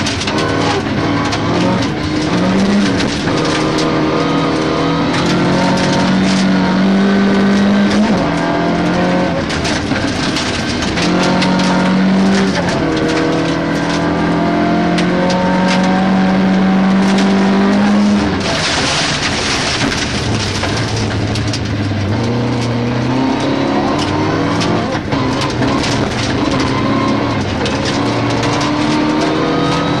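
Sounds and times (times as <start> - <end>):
gravel striking car underside: 0.0 - 30.0
rally car engine at high revs: 0.0 - 30.0.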